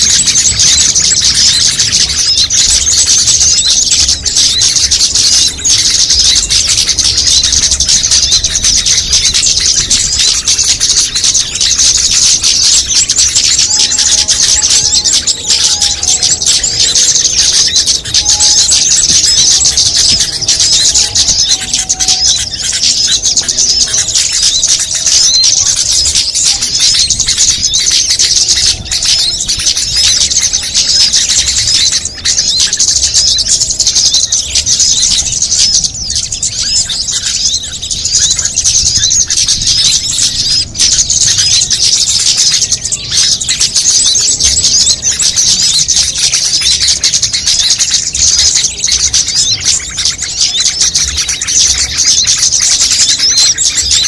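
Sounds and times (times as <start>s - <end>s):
small songbirds chirping: 0.0s - 54.0s.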